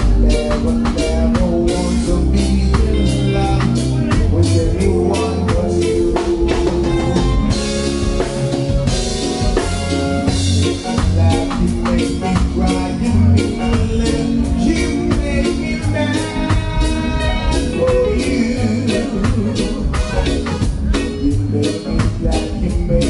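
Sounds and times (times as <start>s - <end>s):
drum kit strokes: 0.0s - 23.0s
heavy bass line: 0.0s - 23.0s
reggae band playing: 0.0s - 23.0s.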